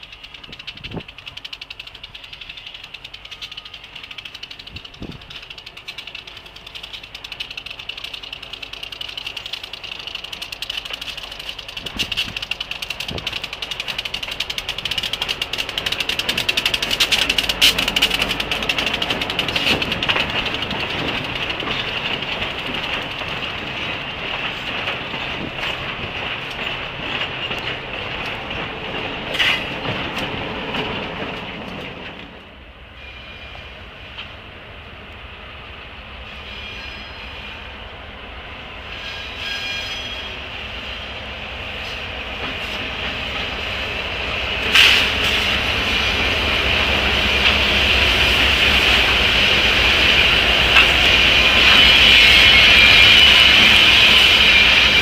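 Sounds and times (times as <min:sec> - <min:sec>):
freight train wheels clacking: 0:00.0 - 0:55.0.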